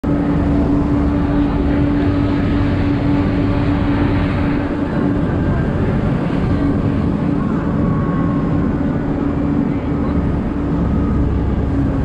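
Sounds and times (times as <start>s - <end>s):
bus engine rumble: 0.0s - 12.0s
drivetrain whine: 0.0s - 12.0s
wind buffeting microphone: 0.0s - 12.0s.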